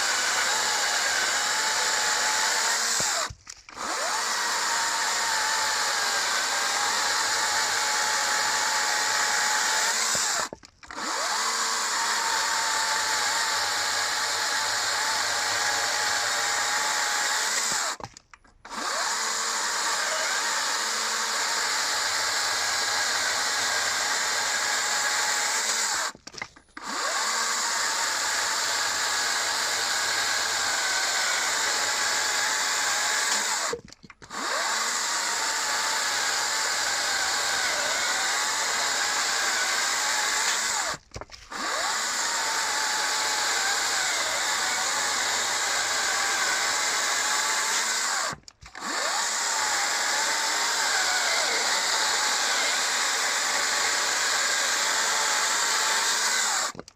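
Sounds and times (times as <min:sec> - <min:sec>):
chainsaw cutting logs: 0:00.0 - 0:56.9.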